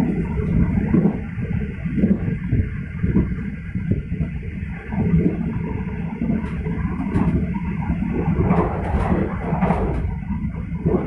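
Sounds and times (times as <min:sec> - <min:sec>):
train clacks and knocks: 0:00.0 - 0:11.0
train wheels rumbling on rail: 0:00.0 - 0:11.0.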